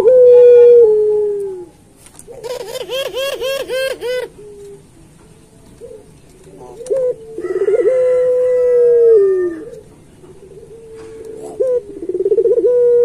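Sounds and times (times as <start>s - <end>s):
dove cooing: 0.0s - 5.0s, 5.7s - 13.0s.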